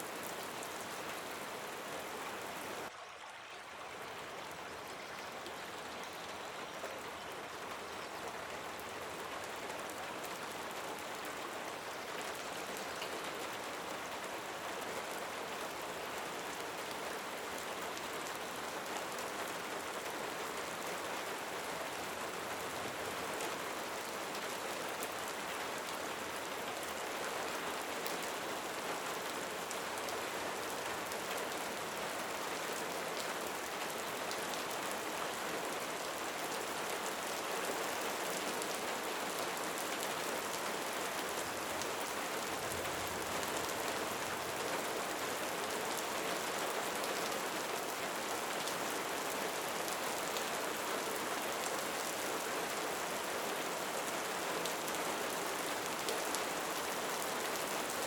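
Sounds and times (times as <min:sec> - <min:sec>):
steady rain falling: 0:00.0 - 0:03.0, 0:03.6 - 0:58.0.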